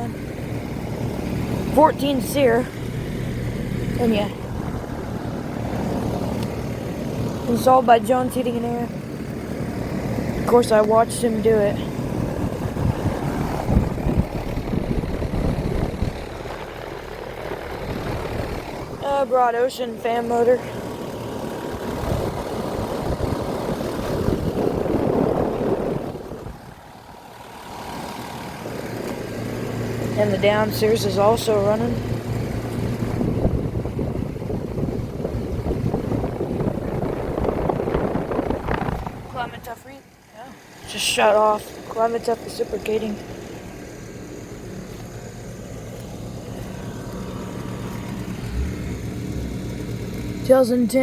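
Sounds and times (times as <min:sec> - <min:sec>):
air conditioner fan rushing: 0:00.0 - 0:51.0
compressor low hum: 0:00.0 - 0:51.0.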